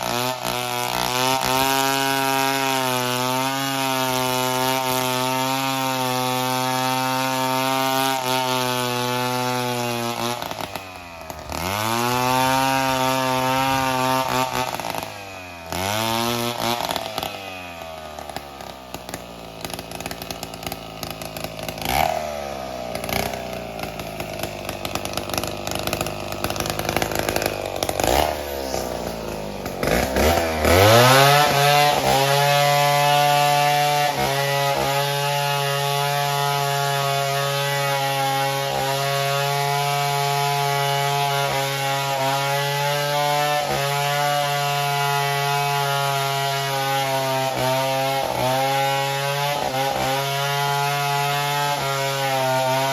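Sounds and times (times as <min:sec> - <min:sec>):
chainsaw engine revving: 0:00.0 - 0:52.9.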